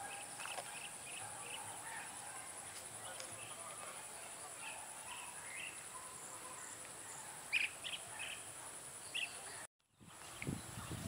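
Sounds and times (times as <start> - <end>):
bird chirps: 0.0 - 2.2, 3.0 - 11.0.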